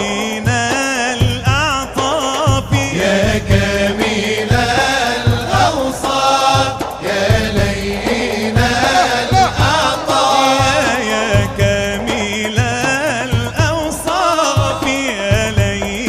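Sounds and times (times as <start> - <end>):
deep beat: 0.0 - 16.0
person singing ornamented melody: 0.0 - 16.0.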